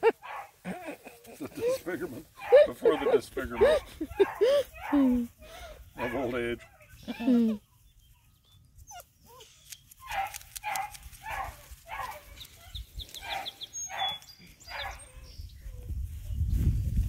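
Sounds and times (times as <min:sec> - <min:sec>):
puppies whining and yipping: 0:00.0 - 0:15.9.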